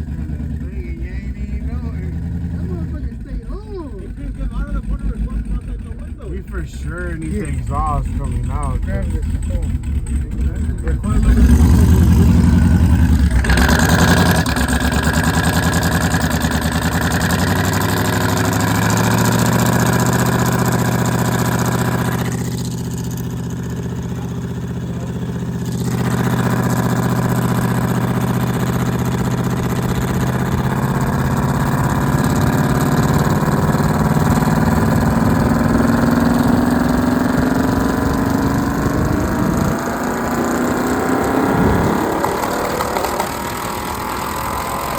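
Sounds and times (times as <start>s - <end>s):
car engine revving and idling: 0.0s - 44.9s.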